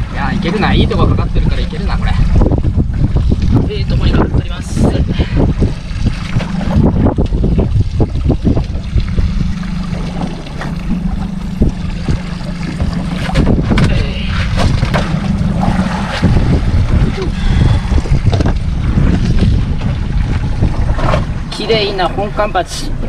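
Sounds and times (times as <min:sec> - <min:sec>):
steady low drone: 0:00.0 - 0:23.0
water slapping against boat: 0:00.0 - 0:23.0
wind buffeting microphone: 0:00.0 - 0:23.0.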